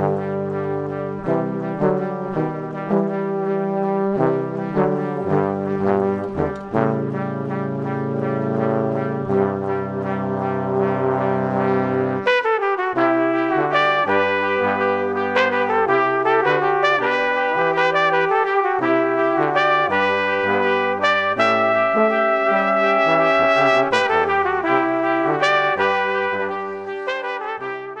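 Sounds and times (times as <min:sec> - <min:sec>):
brass quartet playing chords: 0:00.0 - 0:28.0.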